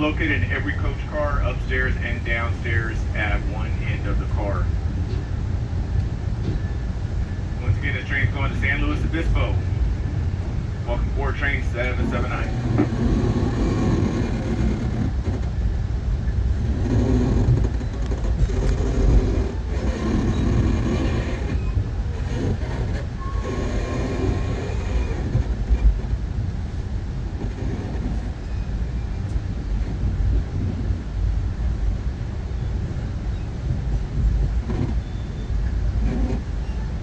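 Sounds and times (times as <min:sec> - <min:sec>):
train running rumble: 0:00.0 - 0:37.0.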